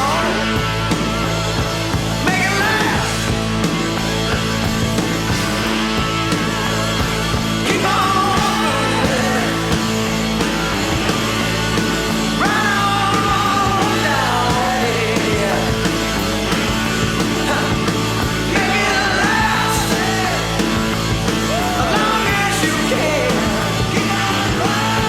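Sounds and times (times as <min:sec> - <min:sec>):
hard rock band playing: 0:00.0 - 0:25.0
sliding bending guitar lead: 0:00.0 - 0:25.0.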